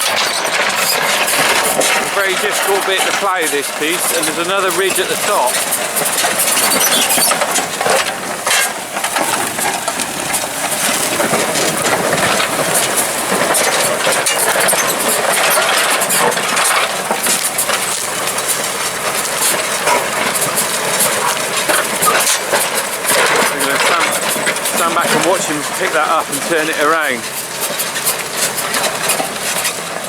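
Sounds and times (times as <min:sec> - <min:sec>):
tractor engine and machinery: 0:00.0 - 0:30.0.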